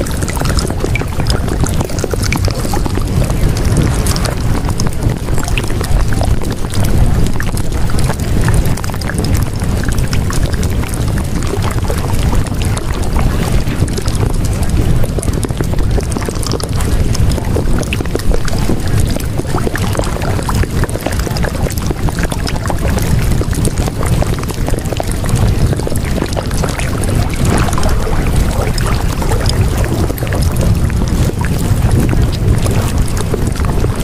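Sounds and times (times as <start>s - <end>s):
fine crackle: 0.0s - 11.9s, 12.6s - 34.0s
deep low rumble: 0.0s - 34.0s
steady rushing noise: 0.0s - 34.0s.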